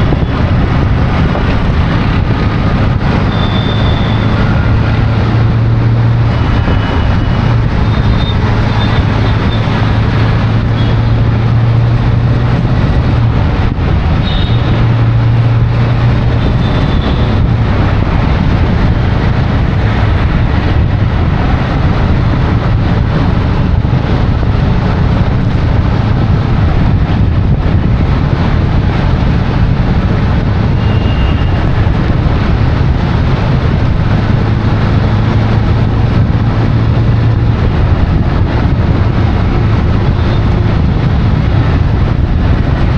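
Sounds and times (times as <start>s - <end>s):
low engine hum: 0.0s - 42.9s
traffic and tyres rushing: 0.0s - 42.9s.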